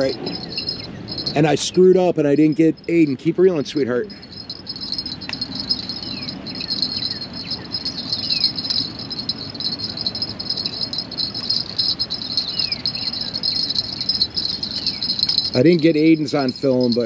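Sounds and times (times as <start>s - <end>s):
birds chirping: 0.0s - 17.0s
insects trilling: 0.0s - 17.0s.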